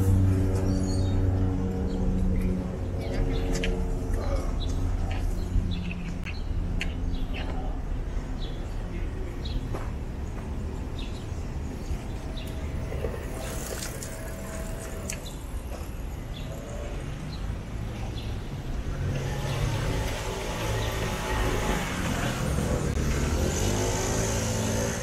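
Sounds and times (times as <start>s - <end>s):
birds chirping: 0.0s - 25.0s
traffic rumble: 0.0s - 25.0s.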